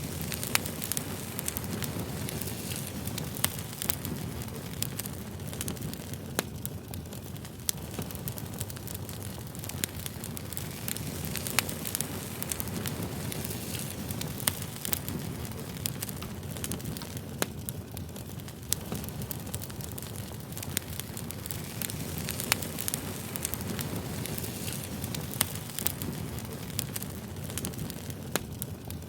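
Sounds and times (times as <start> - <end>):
campfire flames rumbling: 0.0 - 29.0
wood crackling and popping: 0.0 - 29.0.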